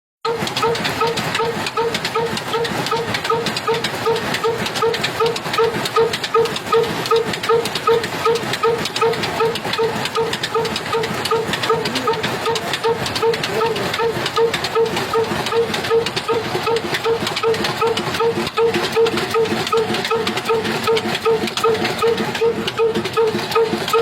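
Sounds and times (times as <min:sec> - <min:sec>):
diesel engine slow steady beat: 0:00.2 - 0:24.0
clatter of sharp clicks: 0:00.3 - 0:24.0.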